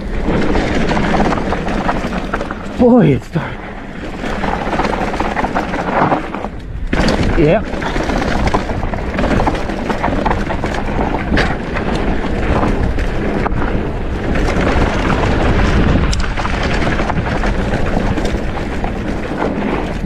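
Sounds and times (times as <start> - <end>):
bike rattling over bumps: 0.0 - 20.0
bike tyre noise on dirt: 0.0 - 20.0
wind rush on microphone: 0.0 - 20.0.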